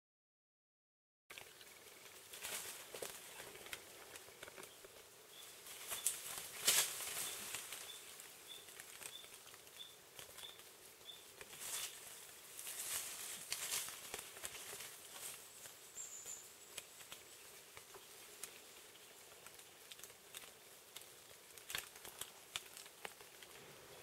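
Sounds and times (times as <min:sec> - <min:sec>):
leaves and branches rustling: 0:01.3 - 0:24.0.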